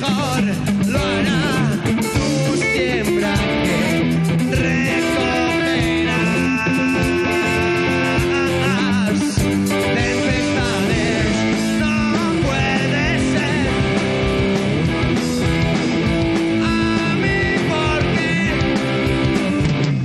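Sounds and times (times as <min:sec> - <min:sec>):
man singing: 0:00.0 - 0:15.8, 0:16.4 - 0:20.0
rock band playing: 0:00.0 - 0:20.0.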